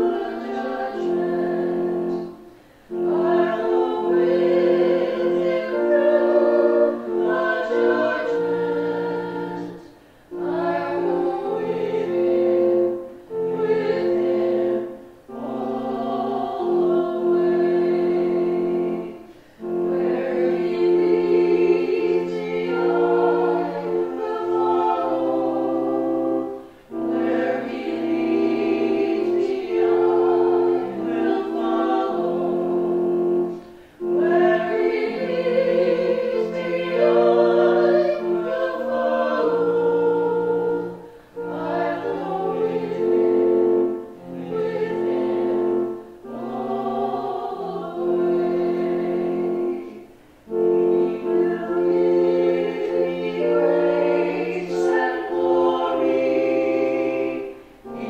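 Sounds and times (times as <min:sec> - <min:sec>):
church choir singing a hymn: 0:00.0 - 0:58.0.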